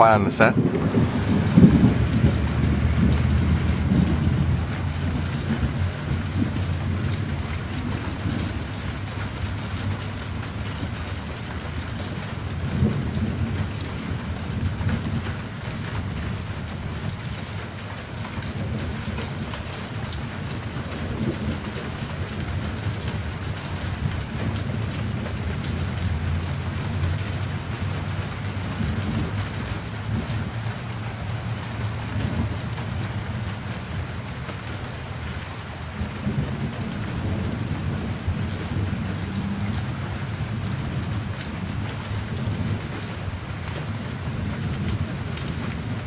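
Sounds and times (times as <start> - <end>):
low rumble of thunder: 0.0 - 46.0
raindrop ticks: 0.0 - 46.0
steady rain falling: 0.0 - 46.0.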